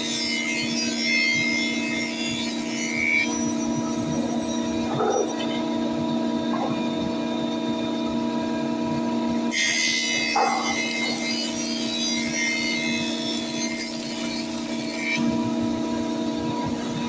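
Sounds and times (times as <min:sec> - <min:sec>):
planer blades cutting wood: 0:00.0 - 0:17.0
planer motor hum: 0:01.4 - 0:17.0.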